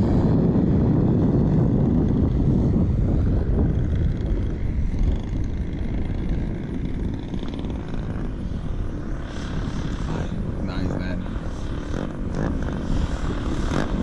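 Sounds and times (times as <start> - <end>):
model airplane engine drone: 0.0 - 14.0
wind rumble on microphone: 0.0 - 14.0.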